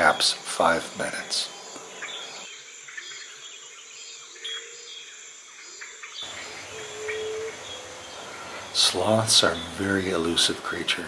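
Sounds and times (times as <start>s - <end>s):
bird calls: 0.0s - 11.0s
insects buzzing: 0.0s - 11.0s.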